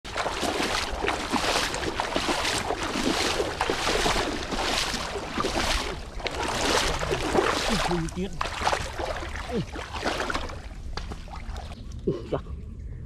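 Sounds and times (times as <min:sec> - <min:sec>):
wading through water: 0:00.0 - 0:12.2.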